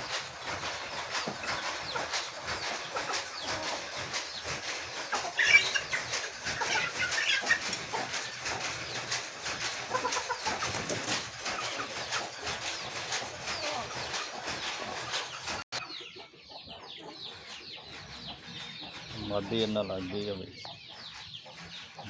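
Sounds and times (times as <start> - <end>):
chickens clucking and calling: 0.0 - 22.0.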